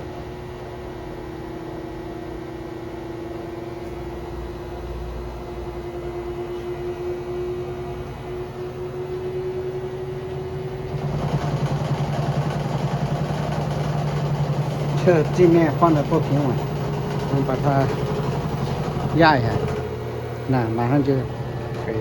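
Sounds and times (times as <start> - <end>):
washing machine spin cycle: 0.0 - 22.0.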